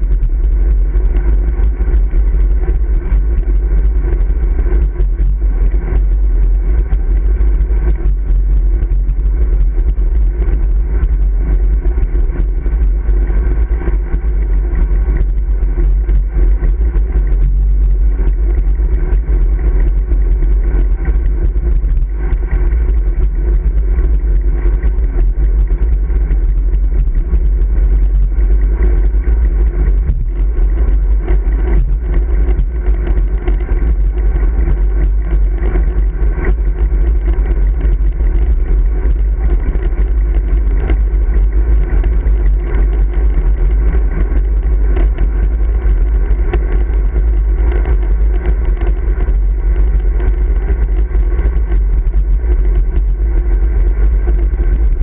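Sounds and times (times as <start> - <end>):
road and tyre rumble: 0.0 - 55.0
wind buffeting microphone: 0.0 - 55.0.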